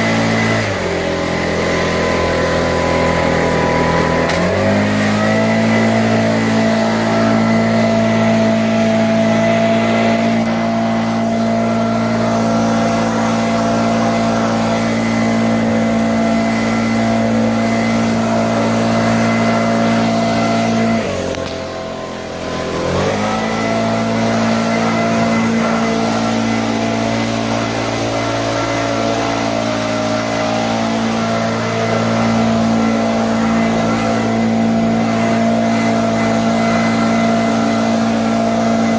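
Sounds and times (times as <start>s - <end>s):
engine running at high speed: 0.0s - 38.9s.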